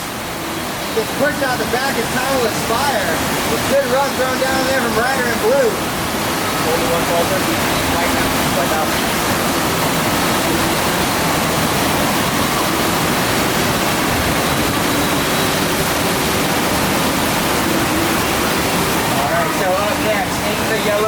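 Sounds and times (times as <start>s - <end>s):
rushing pumped water: 0.0s - 21.0s.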